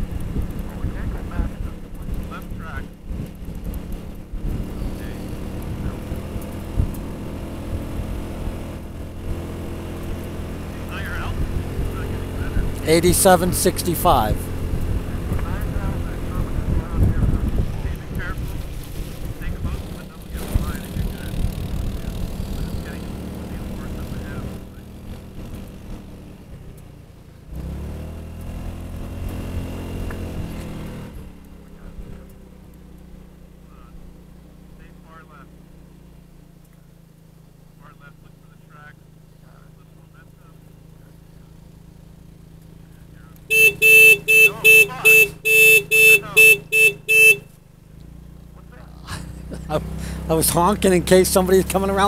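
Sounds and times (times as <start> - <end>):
scooter engine running: 0.0 - 52.0
wind and road noise: 0.0 - 52.0.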